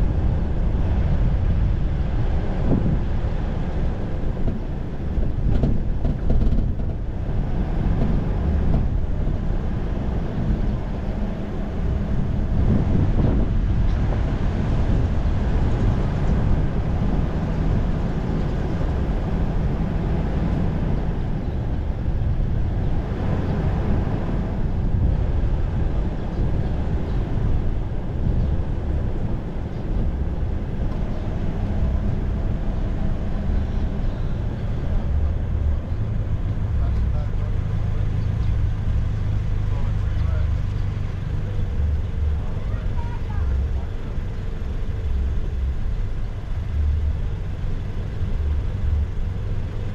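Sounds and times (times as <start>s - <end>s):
car driving on road: 0.0s - 49.9s.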